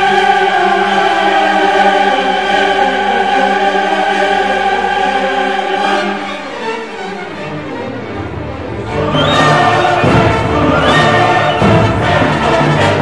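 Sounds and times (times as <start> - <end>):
choir holding sustained notes: 0.0 - 13.0.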